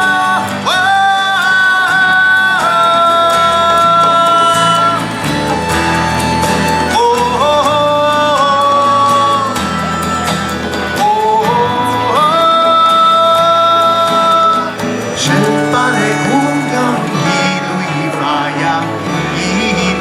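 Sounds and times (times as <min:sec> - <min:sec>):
guitar and band accompaniment: 0:00.0 - 0:20.0
melody in long held notes: 0:00.0 - 0:20.0.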